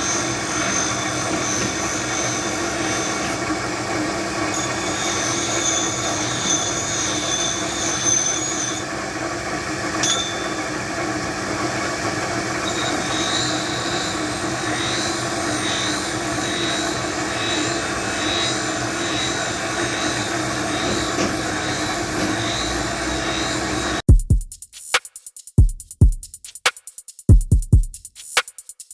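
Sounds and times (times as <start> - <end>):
workshop machinery running: 0.0 - 24.0.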